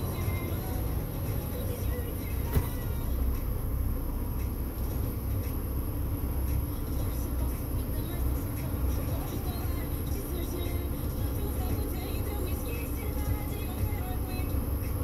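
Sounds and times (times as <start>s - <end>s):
diesel engine rumble: 0.0s - 15.0s.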